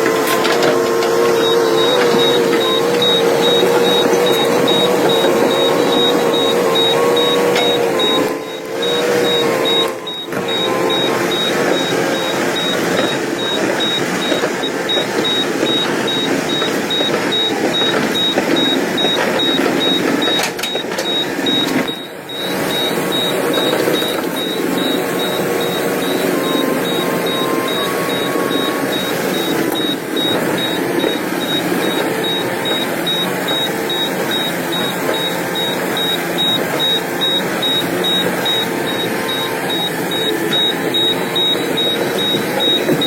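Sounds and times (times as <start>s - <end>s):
heavy machinery diesel engine: 0.0s - 43.0s.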